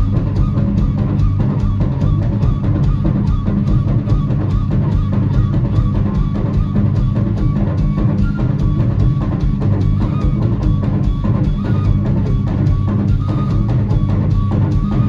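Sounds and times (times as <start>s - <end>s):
drum kit beat: 0.0s - 15.0s
flute melody: 0.0s - 15.0s
live band through speakers: 0.0s - 15.0s.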